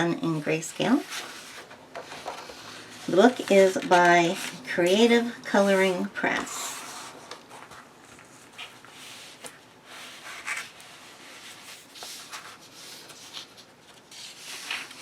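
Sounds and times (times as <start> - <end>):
book pages rustling: 0.8 - 15.0.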